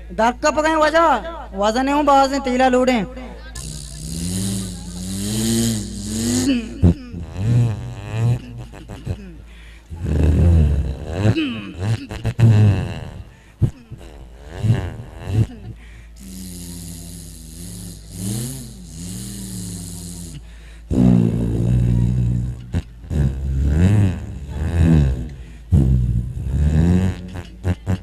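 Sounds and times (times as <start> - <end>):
man imitating engine with voice: 3.1 - 28.0.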